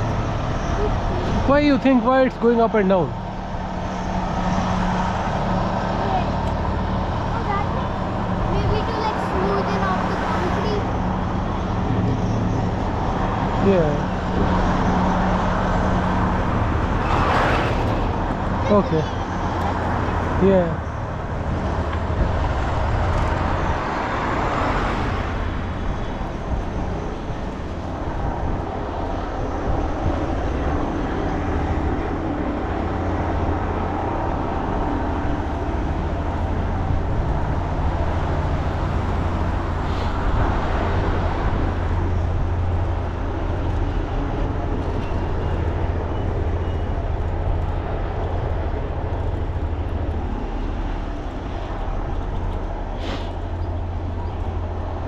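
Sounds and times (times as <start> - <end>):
wind rumble on microphone: 3.1 - 55.0.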